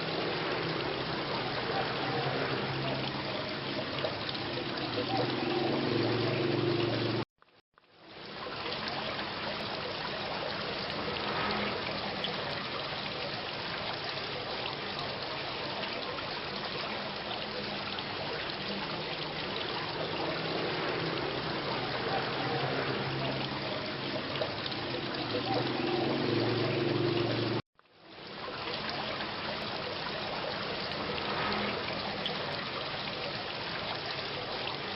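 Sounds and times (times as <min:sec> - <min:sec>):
rain trickling and dripping: 0:00.0 - 0:34.9.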